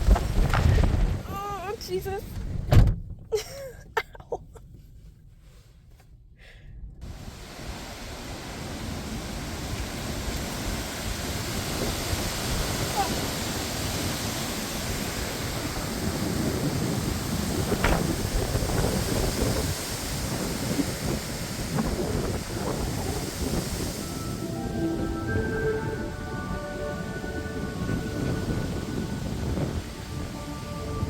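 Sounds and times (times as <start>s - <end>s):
strong gusting wind on microphone: 0.0s - 1.6s, 7.0s - 31.0s.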